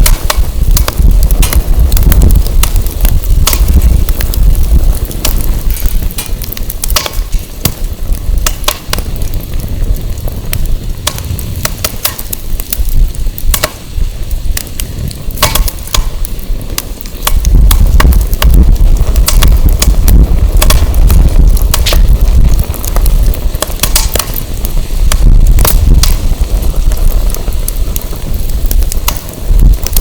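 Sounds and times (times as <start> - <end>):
firewood crackling and popping: 0.0 - 30.0
wind rumble on microphone: 0.0 - 30.0.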